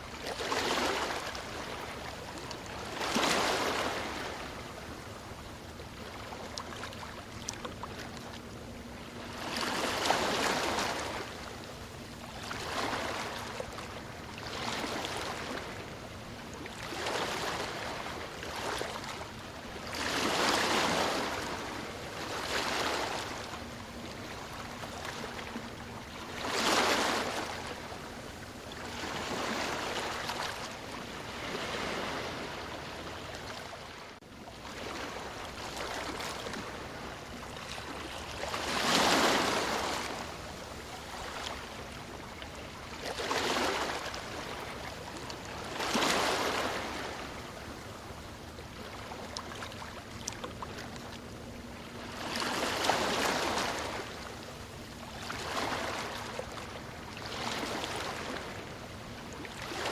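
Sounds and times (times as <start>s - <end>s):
steady wash of surf: 0.0s - 8.4s, 9.1s - 59.9s
ocean waves breaking: 0.0s - 59.9s.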